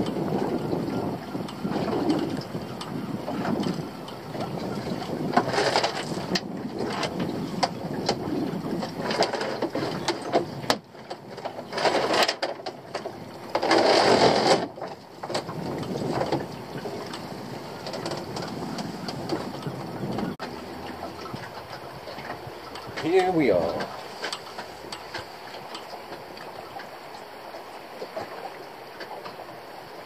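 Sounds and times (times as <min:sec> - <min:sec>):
water slapping against boat: 0:00.0 - 0:30.0
wind buffeting microphone: 0:00.0 - 0:30.0.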